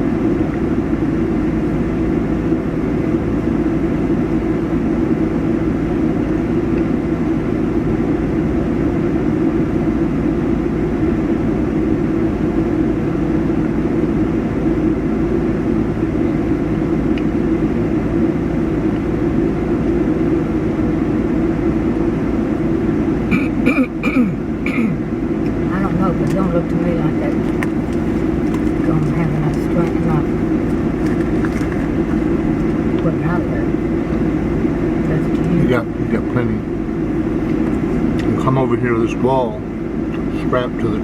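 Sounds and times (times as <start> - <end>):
vehicle engine droning: 0.0 - 41.0.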